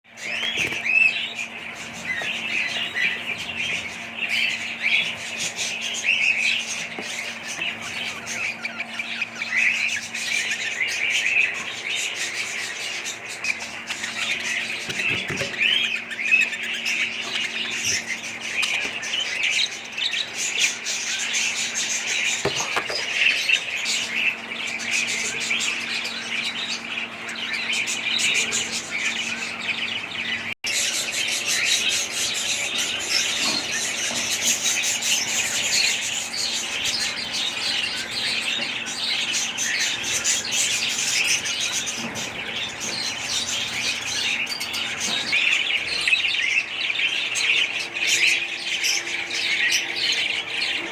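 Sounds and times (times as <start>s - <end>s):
budgerigars chirping and chattering: 0.1s - 50.9s.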